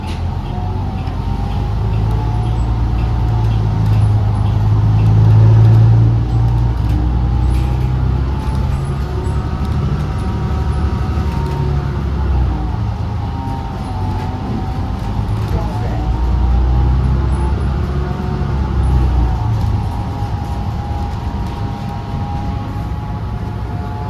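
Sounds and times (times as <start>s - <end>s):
bus drivetrain drone: 0.0s - 24.0s.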